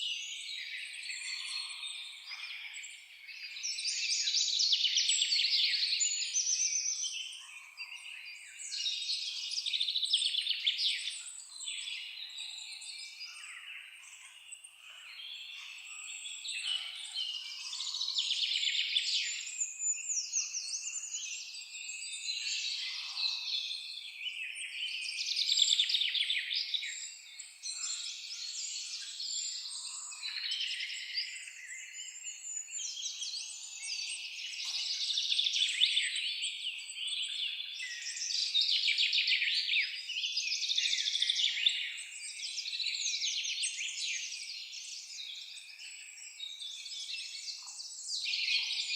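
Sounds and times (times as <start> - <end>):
songbirds chirping and trilling: 0.0 - 48.9.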